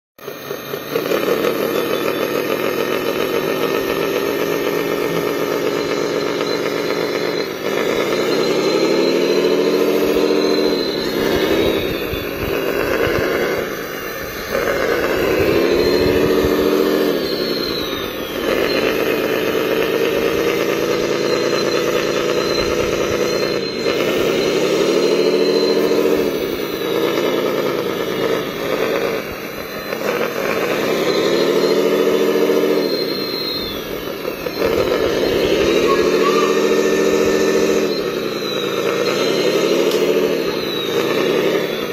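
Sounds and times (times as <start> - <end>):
electric motor whine: 0.2 - 41.9.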